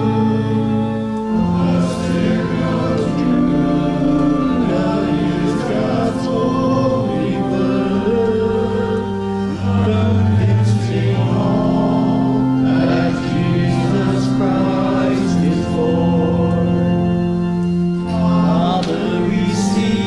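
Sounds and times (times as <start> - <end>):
congregation singing a hymn: 0.0 - 20.0
organ chords: 0.0 - 20.0.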